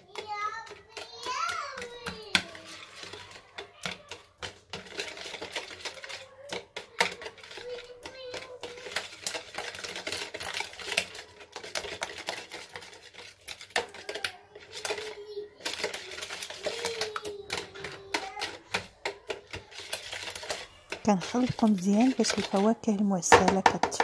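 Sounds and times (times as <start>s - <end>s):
batter sloshing: 0.0s - 24.0s
whisk clicking against bowl: 0.1s - 24.0s.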